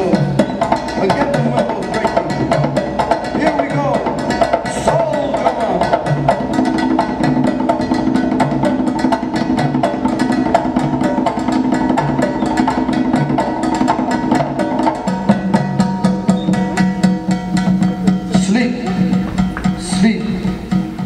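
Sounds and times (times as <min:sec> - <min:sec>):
fast percussion ticks: 0:00.0 - 0:21.0
instrumental music: 0:00.0 - 0:21.0
plucked strings: 0:00.0 - 0:21.0.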